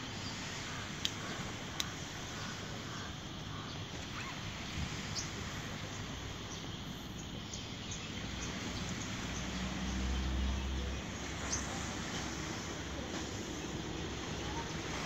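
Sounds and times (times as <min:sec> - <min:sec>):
low engine hum: 0:00.0 - 0:15.0
steady hiss: 0:00.0 - 0:15.0.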